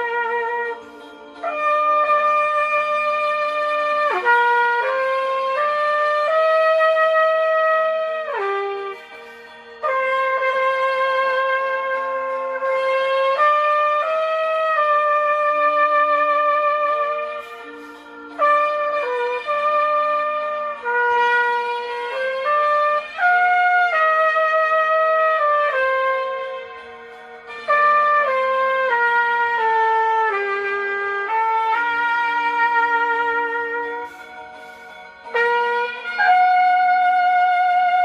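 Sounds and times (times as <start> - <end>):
sustained accompaniment: 0.0 - 38.0
trumpet slow melody: 0.0 - 38.0.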